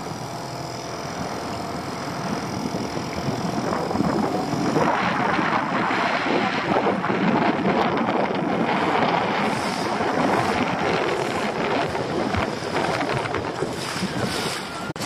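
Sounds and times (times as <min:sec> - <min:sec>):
wind buffeting microphone: 0:01.1 - 0:15.0
water slapping against hull: 0:01.2 - 0:15.0.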